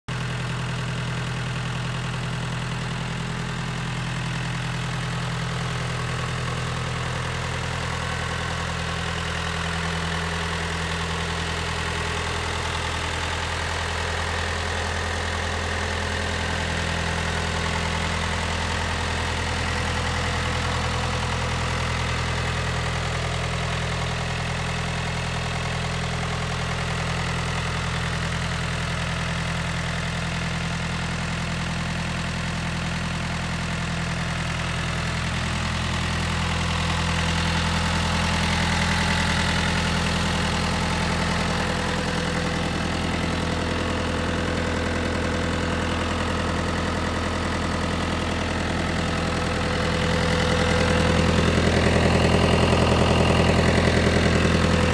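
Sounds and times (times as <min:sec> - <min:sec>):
diesel tractor engine idling: 0:00.1 - 0:54.9.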